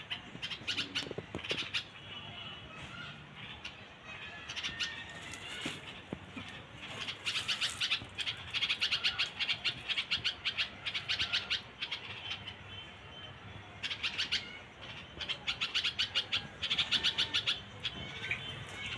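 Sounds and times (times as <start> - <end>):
young songbirds chirping rapidly: 0.0 - 18.9.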